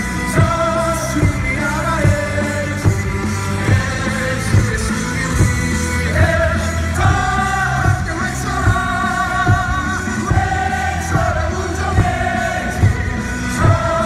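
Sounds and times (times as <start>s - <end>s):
amplified music: 0.0s - 14.0s
crowd singing in unison: 0.0s - 14.0s
steady drum beat: 0.0s - 14.0s.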